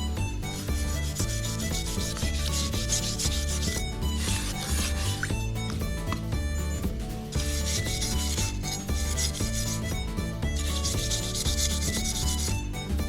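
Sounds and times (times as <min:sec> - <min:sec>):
knife blade scraping on abrasive: 0:00.4 - 0:05.8, 0:07.3 - 0:12.7.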